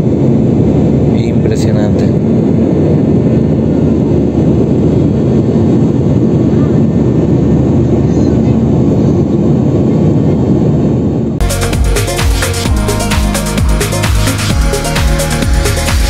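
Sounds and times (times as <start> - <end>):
jet cabin engine rumble: 0.0 - 16.0.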